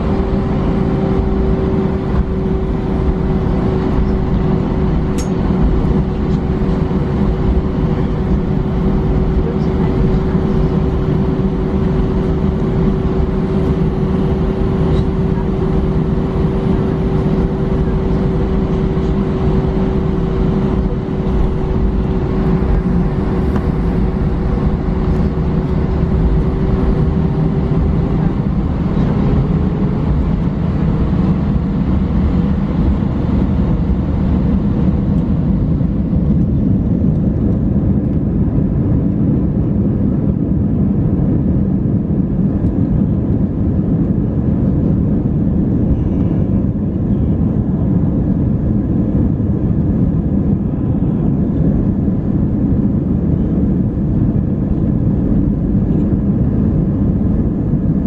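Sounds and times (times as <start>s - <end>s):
aircraft engines idling rumble: 0.0s - 58.0s
steady whine: 0.0s - 58.0s.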